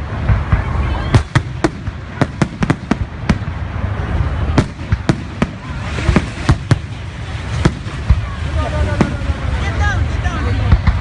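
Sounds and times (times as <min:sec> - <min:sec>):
fireworks bangs: 0:00.0 - 0:11.0
fireworks crackle: 0:00.0 - 0:11.0
low rumble: 0:00.0 - 0:11.0.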